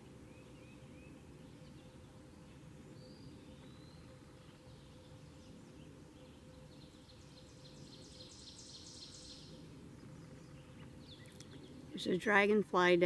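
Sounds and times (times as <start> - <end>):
distant songbird chirping: 0.0 - 13.0
steady low hum: 0.0 - 13.0.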